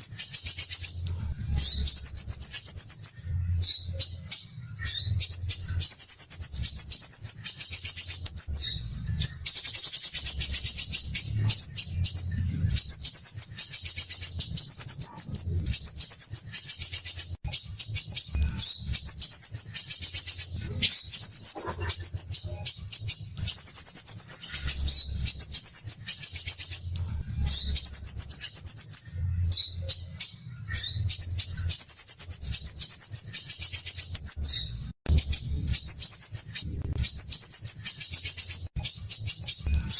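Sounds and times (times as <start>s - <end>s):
bird singing harsh rapid trills: 0.0s - 39.9s.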